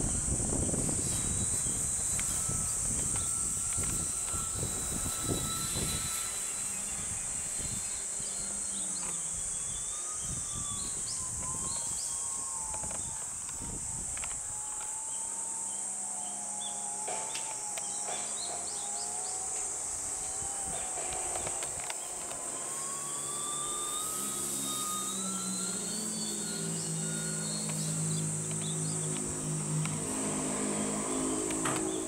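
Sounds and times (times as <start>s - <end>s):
insect buzz: 0.0s - 32.0s
model plane motor whining: 0.0s - 32.0s
propeller drone: 0.0s - 32.0s.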